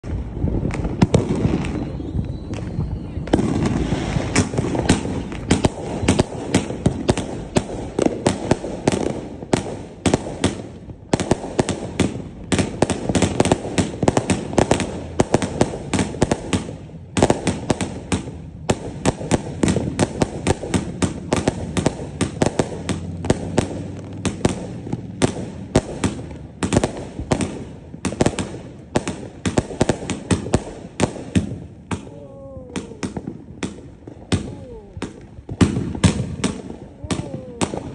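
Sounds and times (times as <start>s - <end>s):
fireworks exploding: 0.0s - 37.9s.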